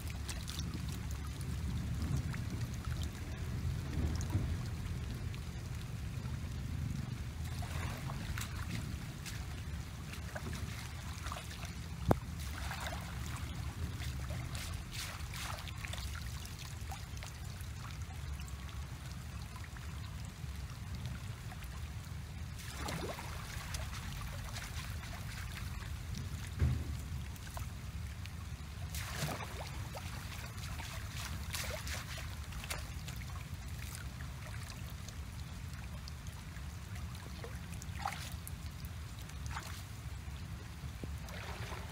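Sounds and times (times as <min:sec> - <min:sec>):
steady low rumble: 0:00.0 - 0:41.9
water splashing and sloshing: 0:00.0 - 0:41.9.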